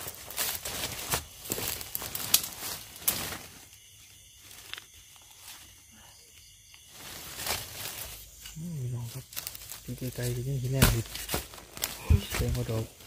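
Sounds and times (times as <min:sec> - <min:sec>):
rustling in dry leaf litter: 0:00.0 - 0:05.9, 0:06.7 - 0:13.0.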